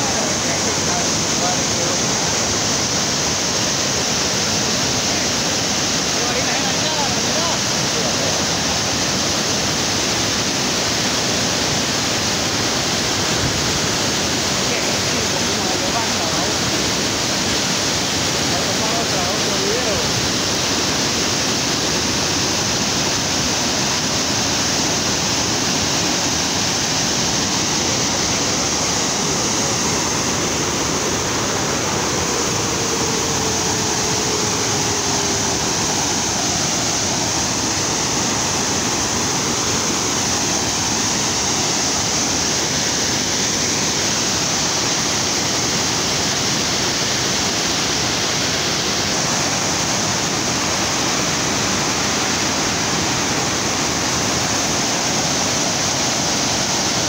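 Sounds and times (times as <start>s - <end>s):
water rushing over a cascade: 0.0s - 57.0s.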